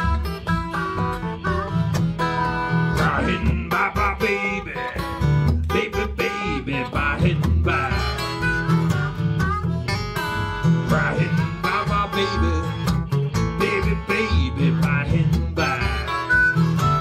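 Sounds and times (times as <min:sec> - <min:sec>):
acoustic guitar playing blues: 0:00.0 - 0:17.0.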